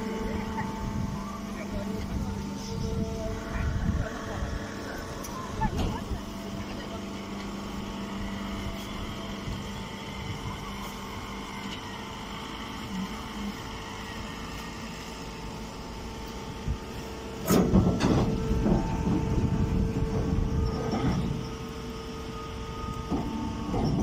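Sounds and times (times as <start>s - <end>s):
machine hum: 0.0s - 24.0s.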